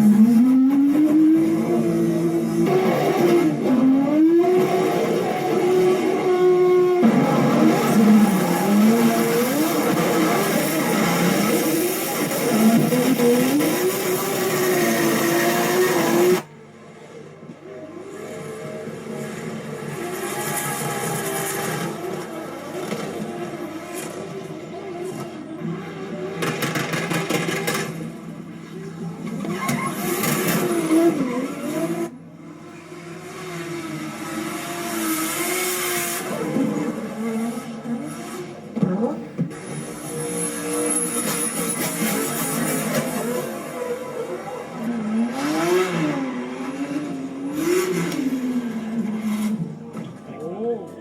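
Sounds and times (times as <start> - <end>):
car engine at high revs: 0.0 - 16.5, 18.1 - 50.2.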